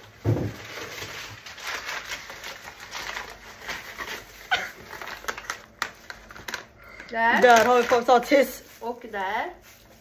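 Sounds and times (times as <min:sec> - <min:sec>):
rustling of groceries: 0:00.0 - 0:10.0.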